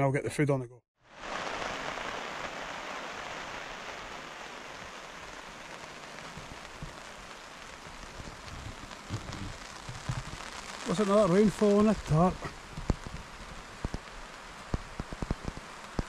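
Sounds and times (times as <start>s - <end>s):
rain falling on a tarp: 1.0s - 16.0s.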